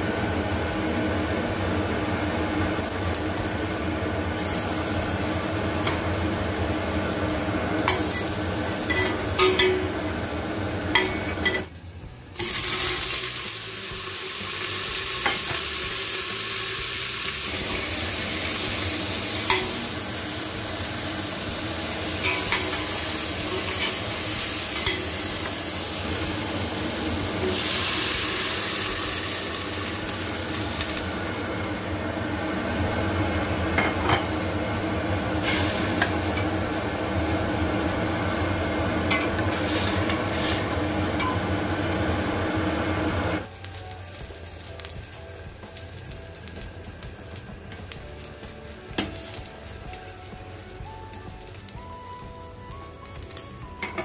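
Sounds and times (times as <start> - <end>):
meat sizzling in pot: 2.5 - 54.0.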